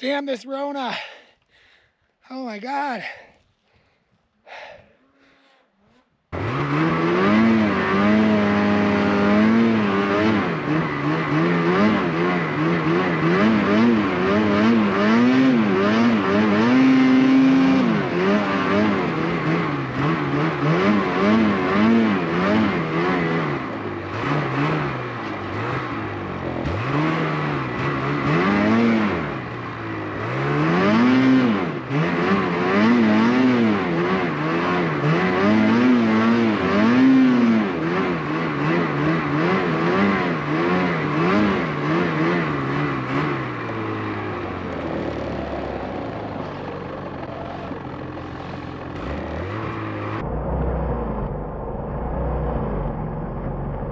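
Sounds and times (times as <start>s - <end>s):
snowmobile engine revving: 4.5s - 51.2s.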